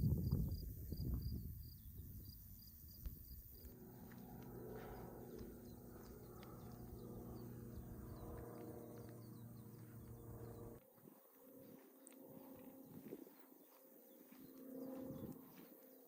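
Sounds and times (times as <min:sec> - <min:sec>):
steady low hum: 0:00.0 - 0:16.0
small birds chirping: 0:00.2 - 0:10.8, 0:11.6 - 0:16.0.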